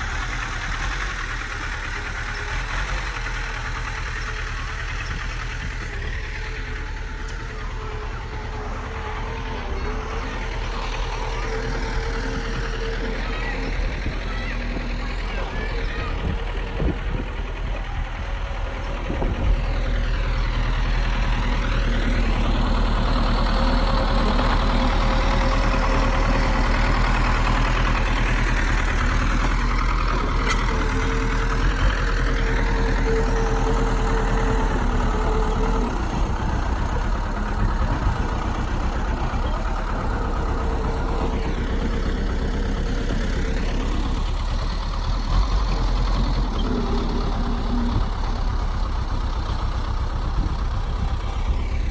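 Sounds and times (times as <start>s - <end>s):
heavy machine diesel engine: 0.0s - 51.9s.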